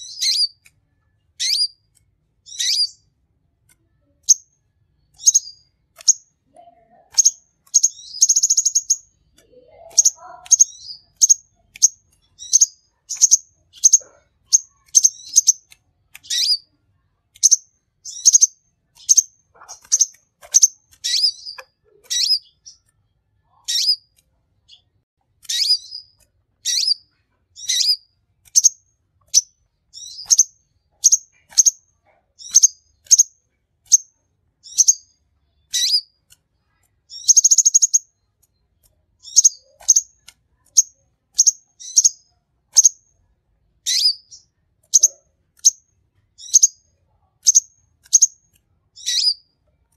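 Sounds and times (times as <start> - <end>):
sunbird chirping: 0.0 - 0.6, 1.3 - 1.8, 2.4 - 3.1, 3.9 - 6.3, 6.9 - 16.7, 17.3 - 22.9, 23.5 - 24.8, 25.4 - 33.3, 33.9 - 36.2, 37.1 - 38.6, 39.2 - 43.0, 43.9 - 45.8, 46.4 - 48.4, 49.0 - 49.5
buzzy bird trill: 0.0 - 0.7, 1.4 - 3.1, 4.0 - 22.9, 23.5 - 24.1, 25.4 - 36.2, 37.1 - 38.3, 39.2 - 43.0, 43.8 - 46.8, 49.0 - 49.5.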